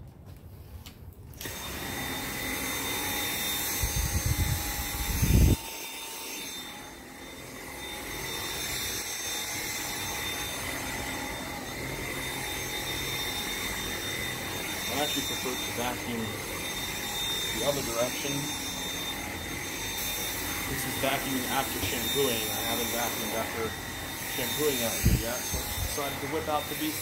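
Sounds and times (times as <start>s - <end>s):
vacuum cleaner whining: 1.4s - 27.0s.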